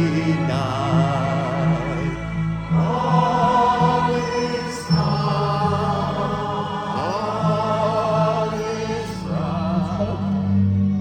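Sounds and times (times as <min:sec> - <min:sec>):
choir singing: 0:00.0 - 0:11.0
orchestral bass notes: 0:00.0 - 0:11.0.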